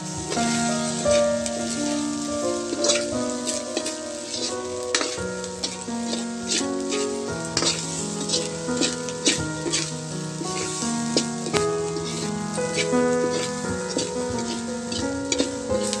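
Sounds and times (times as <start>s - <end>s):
background music with held notes: 0.0s - 16.0s
food sizzling in a wok: 0.0s - 16.0s
metal spatula scraping a pan: 0.0s - 16.0s.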